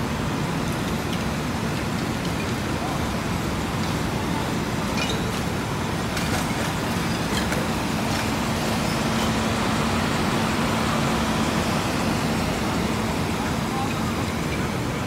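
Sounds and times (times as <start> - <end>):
diesel trucks idling: 0.0 - 15.0.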